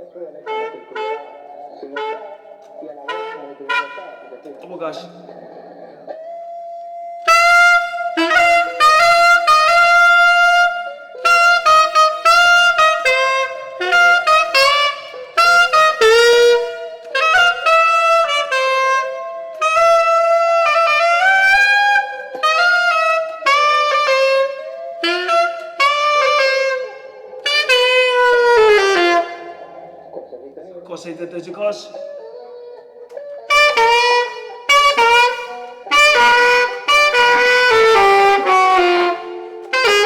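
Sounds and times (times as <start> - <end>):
solo saxophone playing jazz: 0.0 - 40.0.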